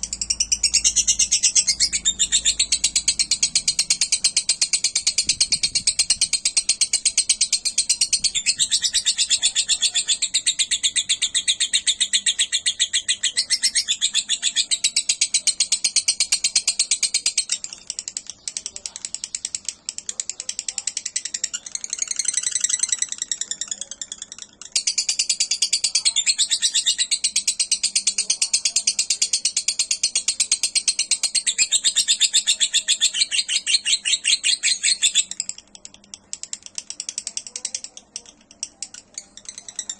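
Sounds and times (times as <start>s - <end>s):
lovebird chattering trills: 0.0s - 39.9s.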